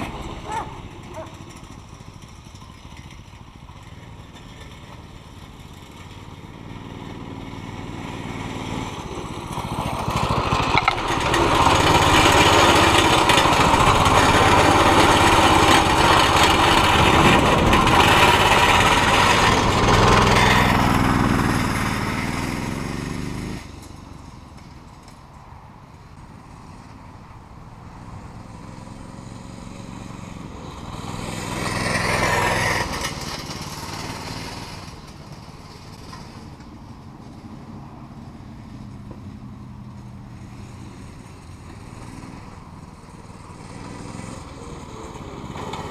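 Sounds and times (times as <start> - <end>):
mini bike engine running: 0.0 - 24.3, 28.4 - 37.7, 40.0 - 45.9.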